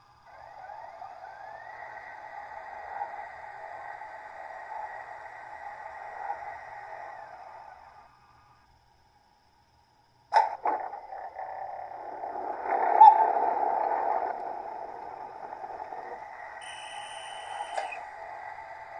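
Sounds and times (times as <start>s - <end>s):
model locomotive motor whine: 0.0s - 8.7s, 10.7s - 18.9s.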